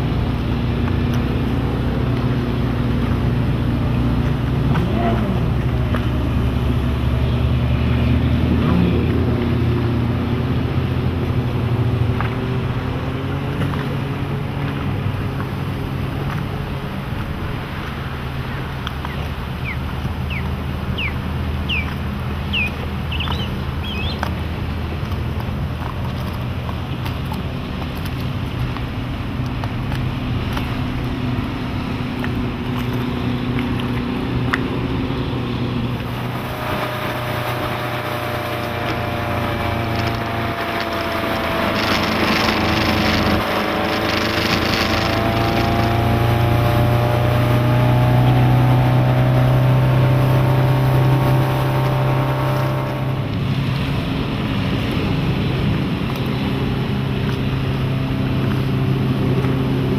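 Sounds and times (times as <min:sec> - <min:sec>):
boat engine running: 0:00.0 - 0:59.9
water rushing: 0:00.0 - 0:59.9
wind: 0:00.0 - 0:59.9.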